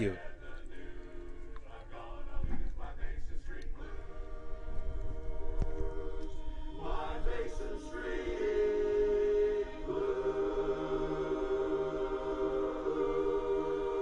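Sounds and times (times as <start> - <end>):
barbershop chorus singing a cappella: 0.0 - 14.0.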